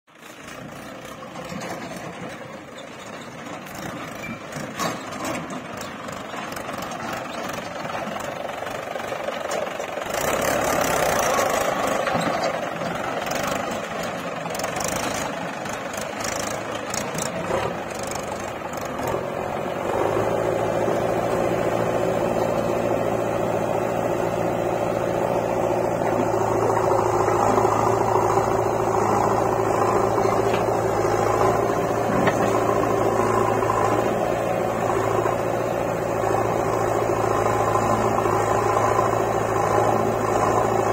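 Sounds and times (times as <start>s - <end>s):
diesel engines running: 0.1s - 40.9s.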